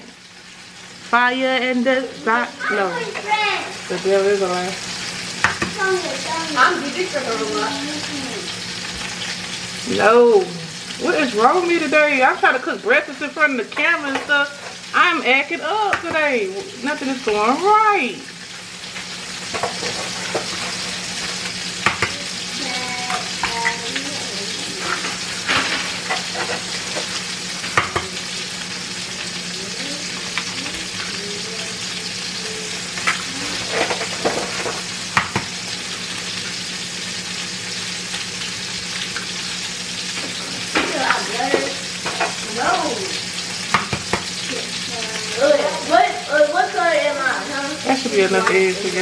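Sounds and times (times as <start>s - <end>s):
eggs and sausages sizzling in pans: 0.0s - 49.0s.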